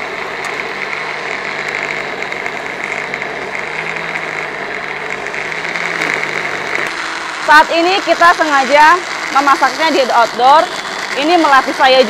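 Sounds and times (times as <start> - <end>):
blender grinding wet paste: 0.0 - 12.0.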